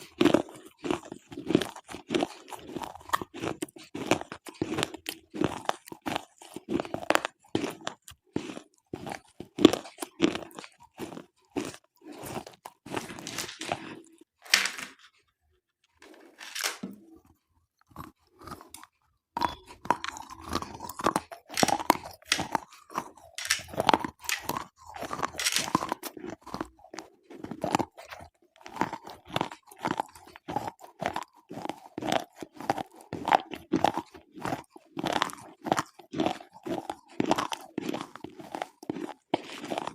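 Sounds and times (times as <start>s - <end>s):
crisp gritty crunching: 0.0s - 15.1s, 17.9s - 39.9s.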